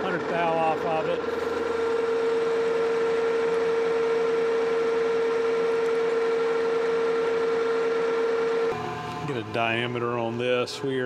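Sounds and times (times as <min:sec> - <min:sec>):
metal lathe whining: 0:00.0 - 0:11.0.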